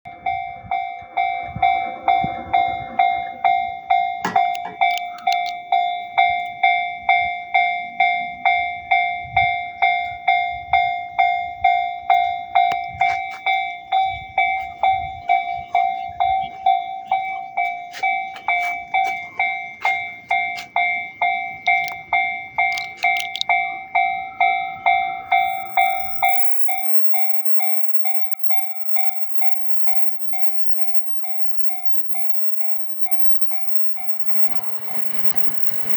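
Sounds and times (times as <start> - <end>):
level crossing bell ringing: 0.1 - 35.9
train rumble: 0.1 - 35.9
train wheels clicking on rails: 0.2 - 24.1, 24.8 - 35.9.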